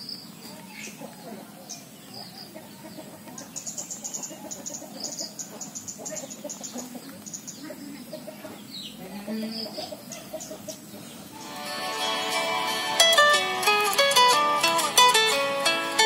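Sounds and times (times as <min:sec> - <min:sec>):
chickens clucking: 0:00.4 - 0:14.6.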